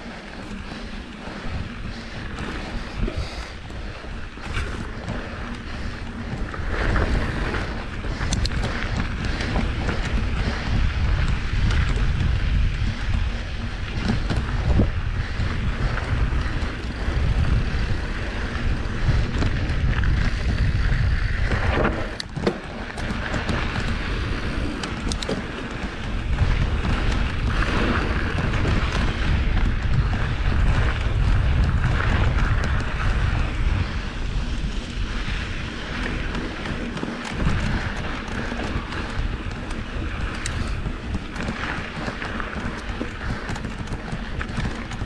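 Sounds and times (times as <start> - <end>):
bike clicks and rattles: 0.0 - 45.0
wind buffeting microphone: 0.0 - 45.0.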